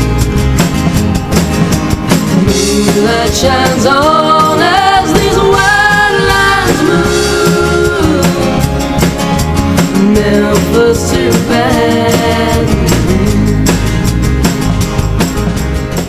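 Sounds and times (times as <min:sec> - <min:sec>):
song with singer and band: 0:00.0 - 0:16.0.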